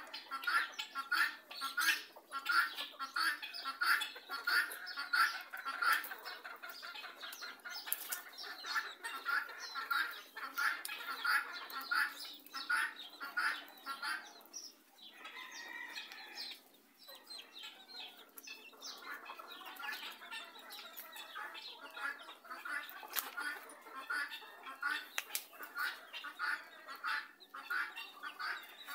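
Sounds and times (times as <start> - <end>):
chicken clucking: 0.0 - 28.9.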